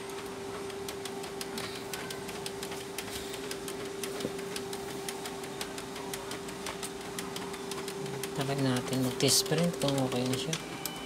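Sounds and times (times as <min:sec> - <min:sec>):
gears ticking: 0:00.0 - 0:11.0
printer motor whine: 0:00.0 - 0:11.0.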